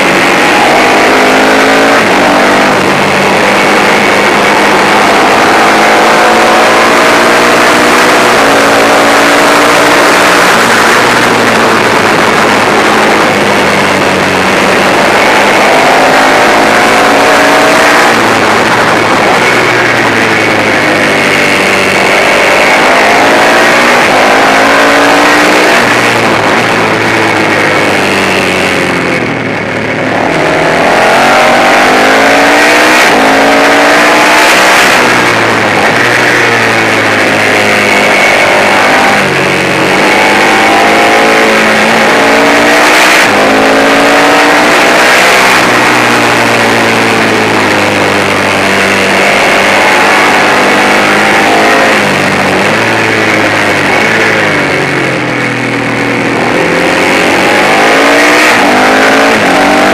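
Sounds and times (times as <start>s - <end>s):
racing motorcycle engine revving: 0.0s - 59.9s
wind and road noise: 0.0s - 59.9s.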